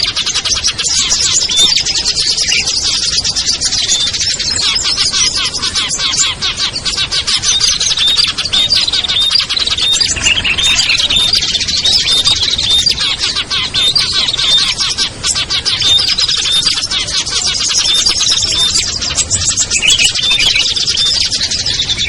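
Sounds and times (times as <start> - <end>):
small songbirds chirping and trilling: 0.0 - 22.0.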